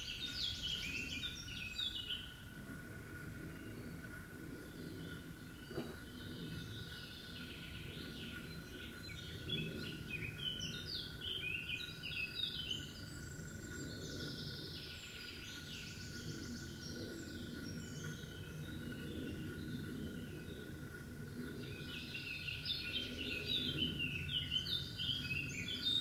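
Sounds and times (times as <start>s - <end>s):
low outdoor hum: 0.0s - 26.0s
songbird singing: 0.0s - 26.0s.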